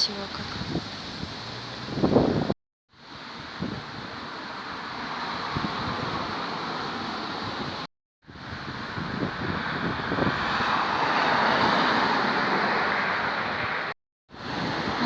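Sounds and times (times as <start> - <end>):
gusty wind on microphone: 0.1 - 15.0.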